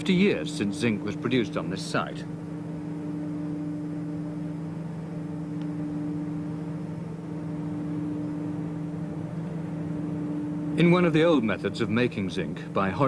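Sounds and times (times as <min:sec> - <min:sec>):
constant hiss: 0:00.0 - 0:13.0
low hum with held tones: 0:00.0 - 0:13.0.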